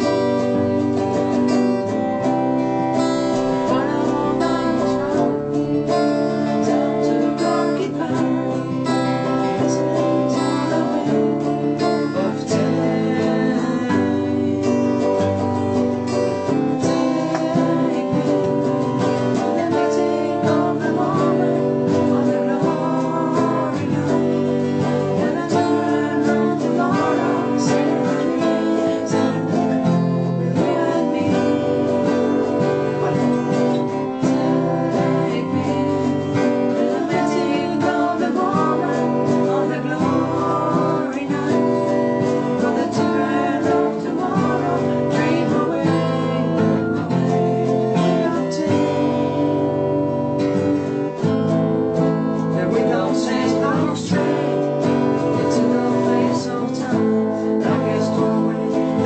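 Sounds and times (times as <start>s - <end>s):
acoustic guitar strumming chords: 0.0s - 59.0s
electric guitar playing: 0.0s - 59.0s.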